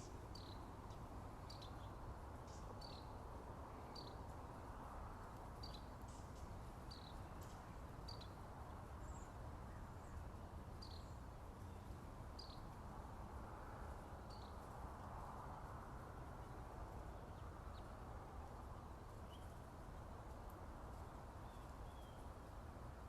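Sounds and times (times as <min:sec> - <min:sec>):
faint low rushing background: 0:00.0 - 0:23.0.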